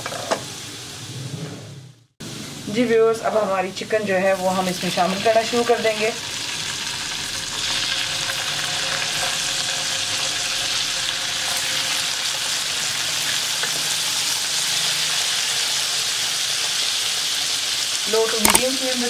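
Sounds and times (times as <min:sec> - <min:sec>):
chicken sizzling in a frying pan: 0:00.0 - 0:01.1, 0:02.2 - 0:19.0.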